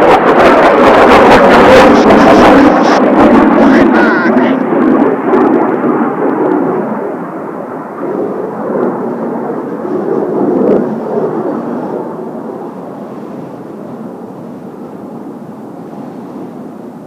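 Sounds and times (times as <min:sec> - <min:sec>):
jet aircraft passing overhead: 0:00.0 - 0:17.0.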